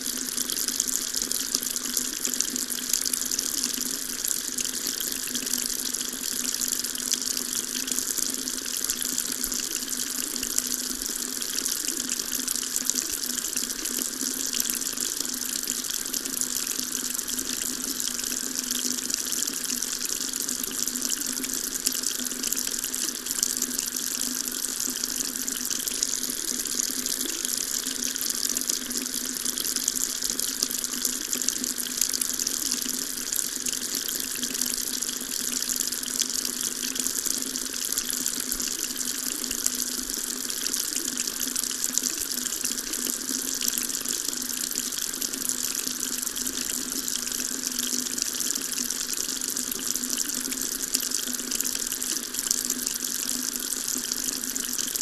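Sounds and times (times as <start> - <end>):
water running from a tap: 0.0 - 55.0.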